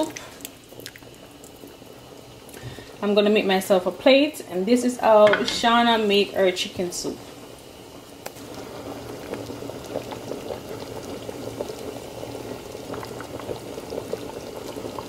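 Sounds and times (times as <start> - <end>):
soup bubbling in a pot: 0.0 - 4.4, 5.1 - 15.0.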